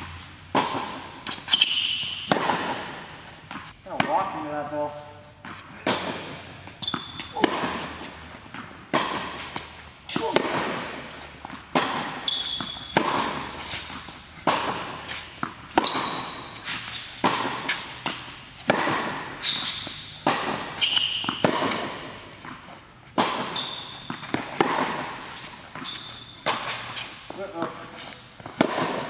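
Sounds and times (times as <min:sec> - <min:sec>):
tennis ball bouncing: 0:00.0 - 0:04.8, 0:05.4 - 0:29.0
racket striking tennis ball: 0:00.0 - 0:29.0
tennis shoes squeaking on court: 0:00.0 - 0:29.0.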